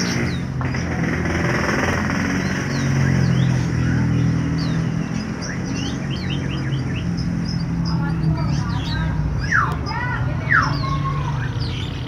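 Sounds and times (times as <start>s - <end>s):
canary chirping: 0.0s - 12.0s.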